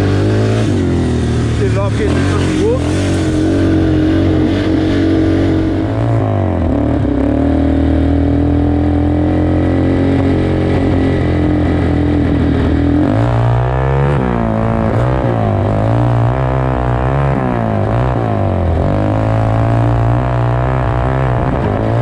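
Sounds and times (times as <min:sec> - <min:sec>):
quad engine running hard: 0:00.0 - 0:22.0.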